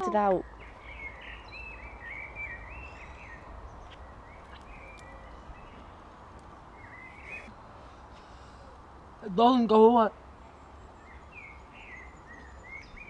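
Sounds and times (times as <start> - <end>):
distant bird singing: 0.0 - 13.0
outdoor background noise: 0.0 - 13.0.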